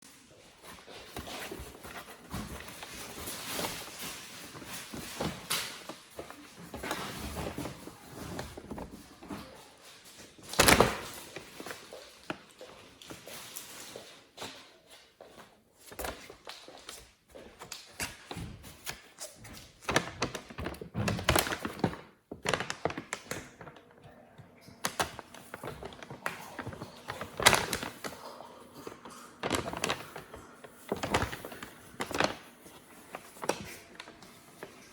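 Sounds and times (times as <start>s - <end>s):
crinkly bag rustling: 0.1s - 15.0s, 19.1s - 24.0s, 24.8s - 34.9s.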